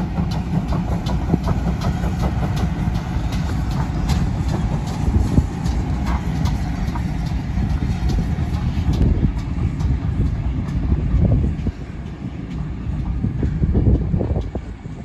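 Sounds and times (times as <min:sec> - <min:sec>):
train coaches rumbling on track: 0:00.0 - 0:15.0.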